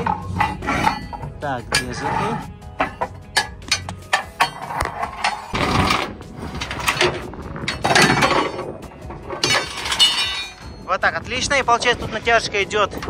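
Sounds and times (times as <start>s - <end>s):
strap scraping: 0.0s - 10.8s.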